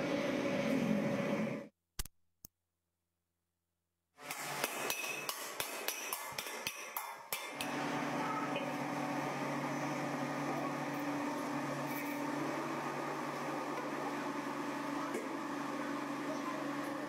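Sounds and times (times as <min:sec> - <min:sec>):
workshop hum: 0:00.0 - 0:02.1, 0:04.2 - 0:17.0.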